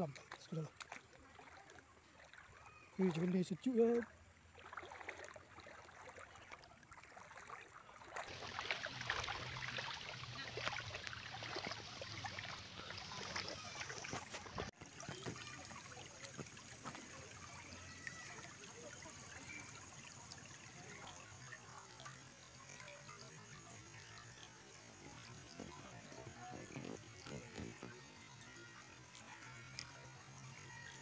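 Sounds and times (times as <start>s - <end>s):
stream trickling over pebbles: 0.0s - 31.0s.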